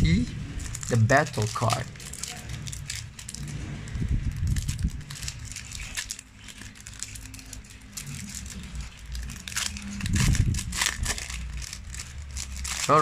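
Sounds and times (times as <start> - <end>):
card wrapper rustling and crinkling: 0.6 - 13.0.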